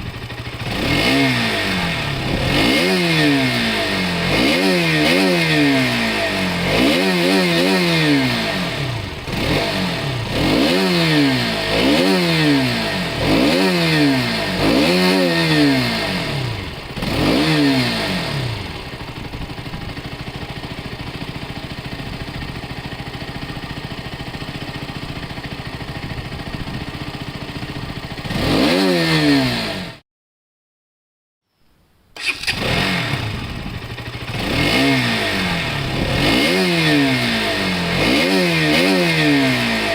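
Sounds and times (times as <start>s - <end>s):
motorcycle engine revving: 0.0s - 30.0s, 32.2s - 39.9s
motorcycle engine starting: 0.0s - 30.0s, 32.2s - 39.9s.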